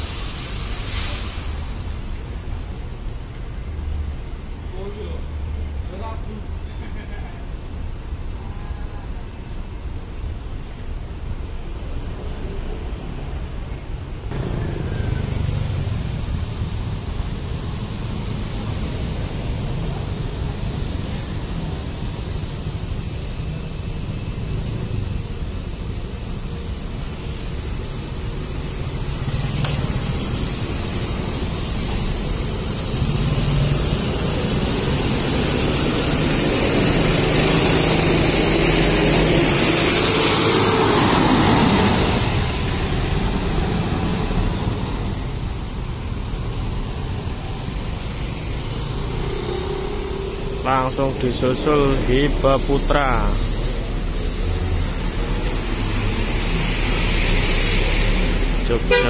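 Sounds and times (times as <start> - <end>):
high hiss: 0.0 - 5.7, 9.4 - 59.0
bus engine passing: 11.0 - 59.0.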